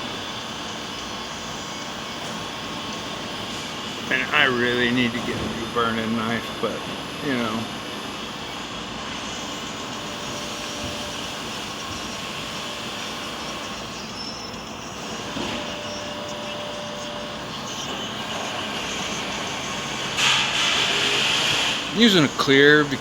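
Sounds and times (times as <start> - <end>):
butane torch hissing: 0.0 - 23.0.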